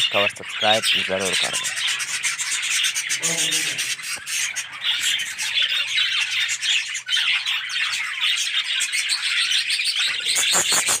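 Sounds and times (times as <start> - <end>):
flock of budgerigars chattering: 0.0 - 11.0.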